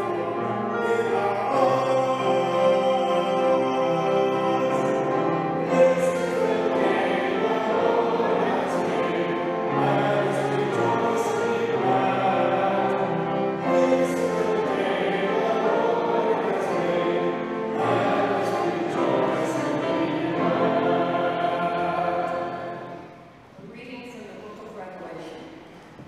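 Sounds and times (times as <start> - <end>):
choir singing long notes: 0.0 - 23.5.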